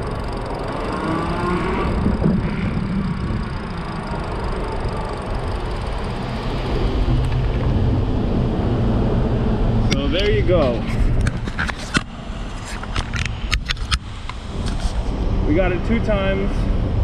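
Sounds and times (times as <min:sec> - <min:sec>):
electric motor whine: 0:00.0 - 0:14.8
motor grinding: 0:00.0 - 0:14.9
wind: 0:00.0 - 0:17.0.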